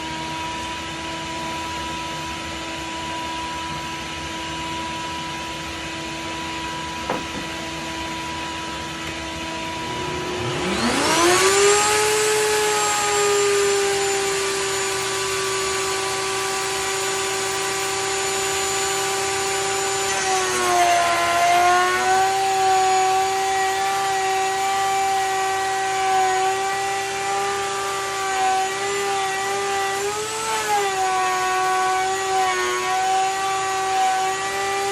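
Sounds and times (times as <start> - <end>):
power tool whine: 0.0 - 34.9.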